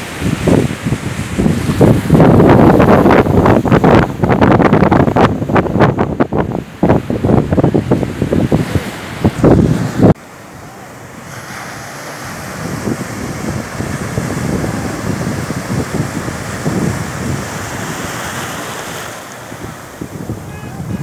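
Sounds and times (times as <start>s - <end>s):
wind buffeting microphone: 0.0s - 10.2s, 11.0s - 21.0s
sea surf breaking: 0.0s - 21.0s.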